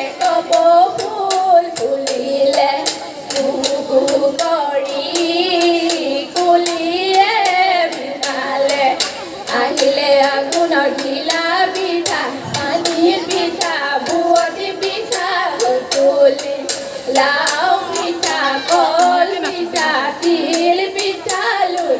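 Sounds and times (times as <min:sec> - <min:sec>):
women singing through a pa: 0:00.0 - 0:21.9.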